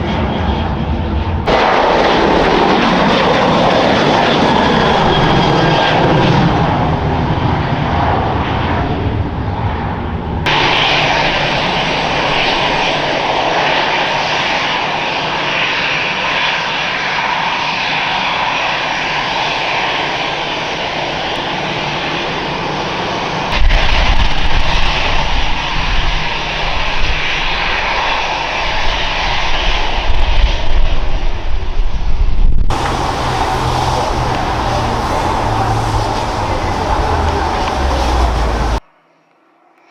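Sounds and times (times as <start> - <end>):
jet engines roaring: 0.0 - 29.8, 32.7 - 38.8.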